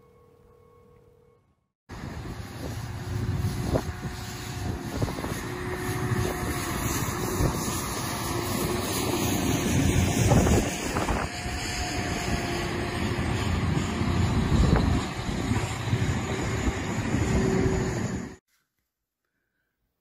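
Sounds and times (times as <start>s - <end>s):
snowplow trucks rumbling: 1.9s - 18.4s.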